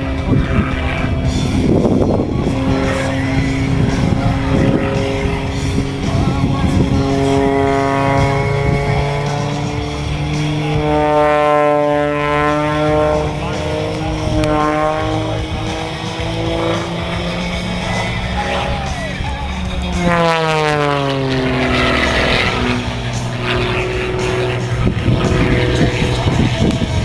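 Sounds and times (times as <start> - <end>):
propeller airplane engine: 0.0 - 27.0.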